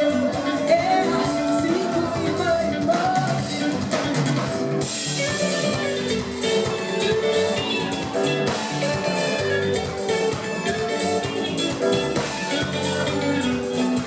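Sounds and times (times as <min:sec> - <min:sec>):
live band playing instrumental: 0:00.0 - 0:14.0.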